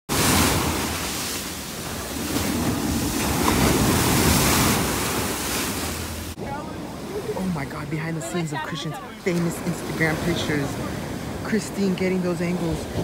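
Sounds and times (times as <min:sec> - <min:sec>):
ocean surf breaking on beach: 0:00.1 - 0:13.0.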